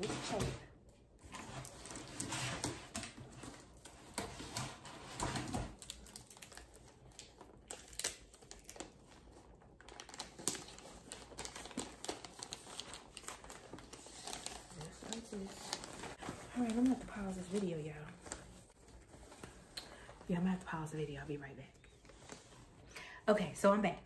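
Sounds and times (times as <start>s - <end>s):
gift wrapping rustling: 0.0s - 22.9s.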